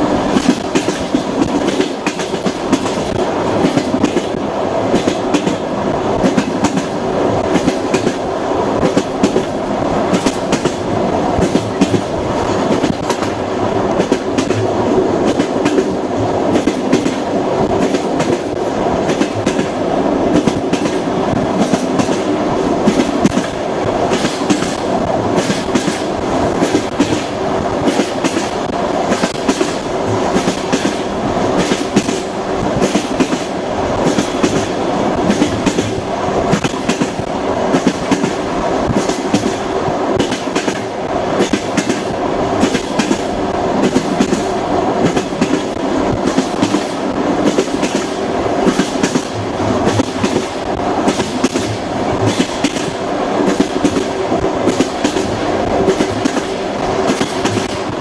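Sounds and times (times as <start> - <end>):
train carriage rumble: 0.0 - 58.0
wheels clacking over rail joints: 0.0 - 58.0.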